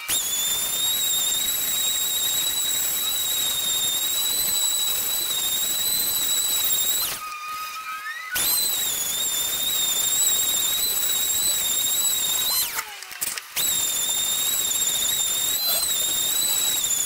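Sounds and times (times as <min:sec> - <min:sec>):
orbital sander whining: 0:00.0 - 0:13.0, 0:13.6 - 0:17.0.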